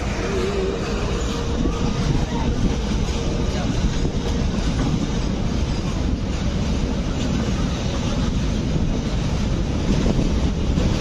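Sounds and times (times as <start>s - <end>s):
rumble of train wheels on rail: 0.0s - 11.0s.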